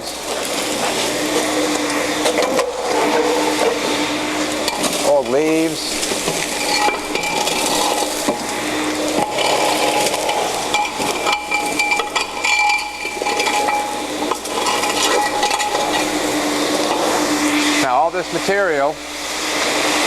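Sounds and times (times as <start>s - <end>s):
faint whine: 0.0s - 20.0s
industrial vacuum rushing hiss: 0.0s - 20.0s
trash rattling up a hose: 0.0s - 20.0s.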